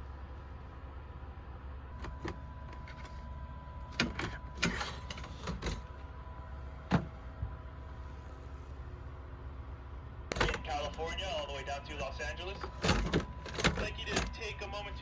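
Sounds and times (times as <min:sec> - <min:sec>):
faint steady tone: 0:00.0 - 0:15.0
steady low hum: 0:00.0 - 0:15.0.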